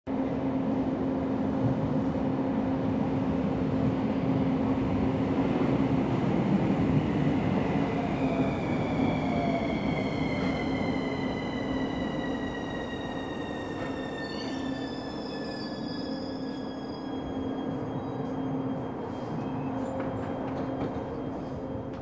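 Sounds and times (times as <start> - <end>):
train wheels rumbling on rails: 0.6 - 22.0.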